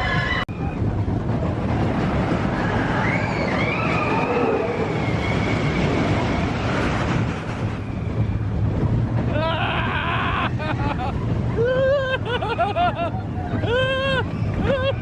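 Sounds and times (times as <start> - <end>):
roller coaster rumble on track: 0.0 - 15.0
rushing wind: 0.0 - 15.0.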